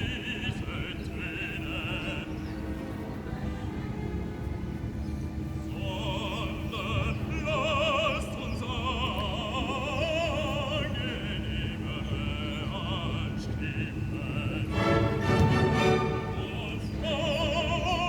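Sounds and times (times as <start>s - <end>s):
operatic singing with vibrato: 0.0s - 18.0s.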